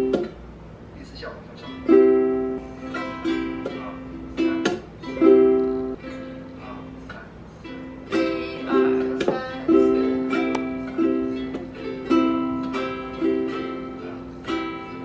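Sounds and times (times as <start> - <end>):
ukulele strumming: 0.0 - 0.6, 1.6 - 15.0.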